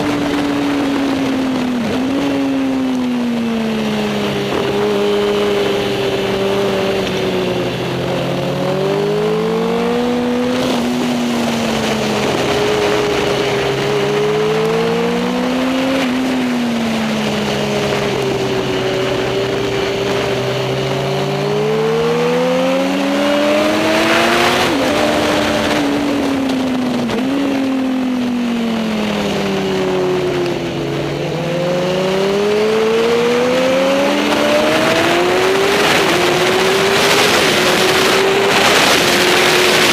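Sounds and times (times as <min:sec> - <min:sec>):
superbike engines racing: 0:00.0 - 0:39.9.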